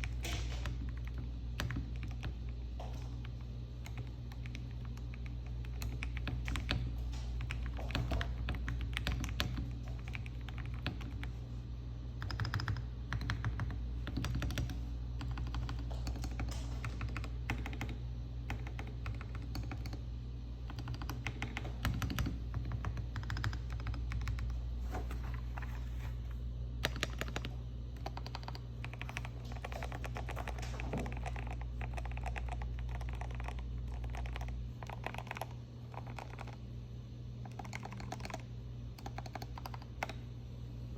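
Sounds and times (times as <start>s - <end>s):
mechanical keyboard typing: 0.0s - 2.4s, 3.2s - 11.4s, 12.2s - 20.0s, 20.6s - 24.6s, 26.8s - 36.6s, 37.4s - 40.2s
steady low hum: 0.0s - 40.9s.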